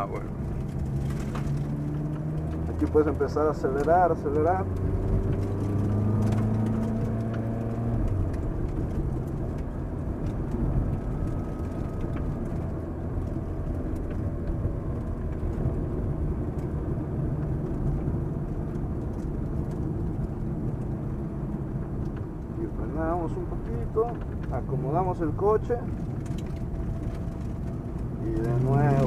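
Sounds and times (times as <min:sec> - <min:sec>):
car engine running: 0:00.0 - 0:29.0
road noise: 0:00.0 - 0:29.0.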